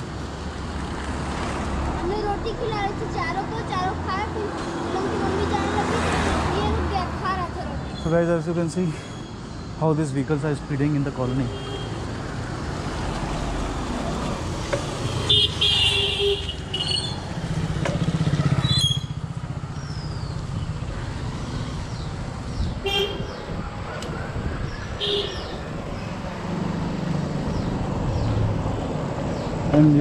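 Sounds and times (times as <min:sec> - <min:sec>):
motorcycle and car engines passing: 0:00.0 - 0:08.9, 0:12.0 - 0:30.0
steady low traffic rumble: 0:00.0 - 0:30.0.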